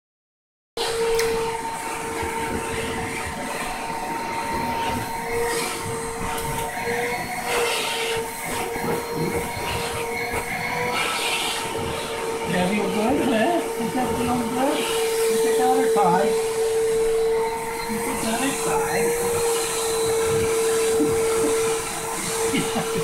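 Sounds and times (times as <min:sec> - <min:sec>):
vacuum cleaner running: 0:00.8 - 0:23.0.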